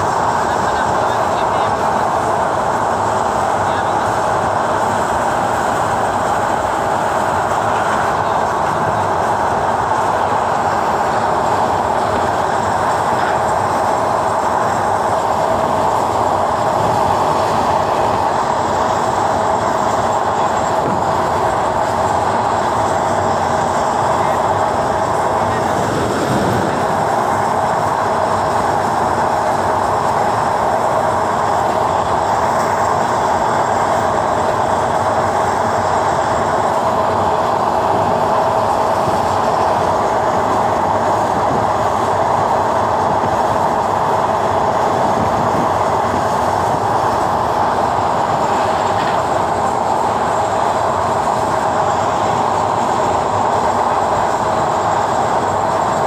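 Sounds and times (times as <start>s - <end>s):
train wheels running on rails: 0.0s - 56.0s.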